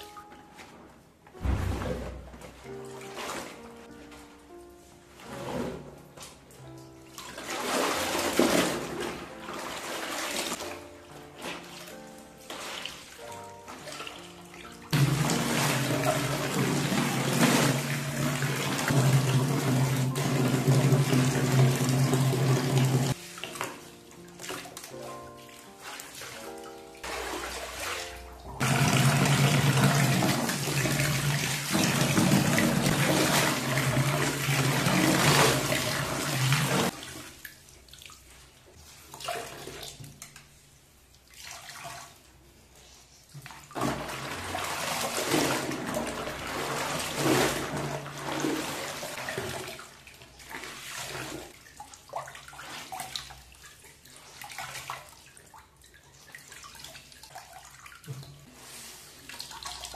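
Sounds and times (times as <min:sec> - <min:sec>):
clothes scrubbed in soapy water: 0:02.9 - 0:04.4, 0:07.1 - 0:40.0, 0:42.8 - 0:59.9.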